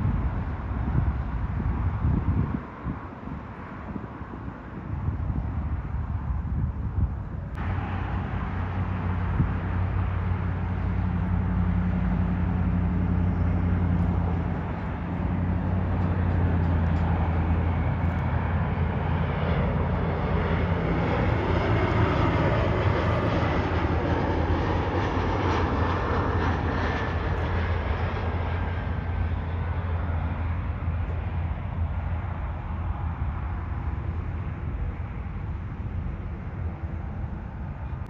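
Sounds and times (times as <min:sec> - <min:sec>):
jet engines roaring: 0:00.0 - 0:38.0
low hum: 0:00.0 - 0:38.0.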